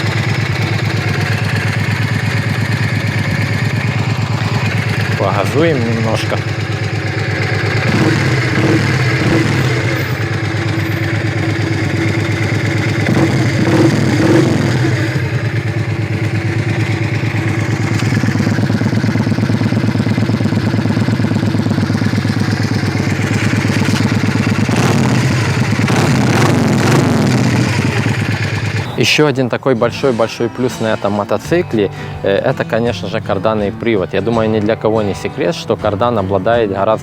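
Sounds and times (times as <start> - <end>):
motorcycle engine idling: 0.0 - 37.0
motorcycle engine revving: 0.0 - 37.0.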